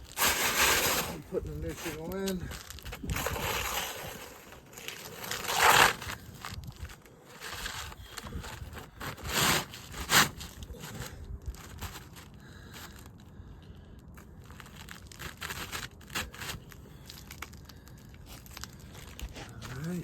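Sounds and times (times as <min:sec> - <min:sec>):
roof shingle scraping: 0:00.0 - 0:13.1, 0:14.4 - 0:17.5.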